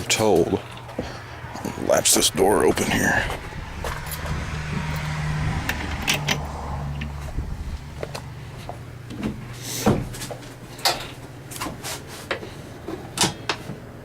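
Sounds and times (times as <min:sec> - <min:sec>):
low motor hum: 0:00.0 - 0:11.5.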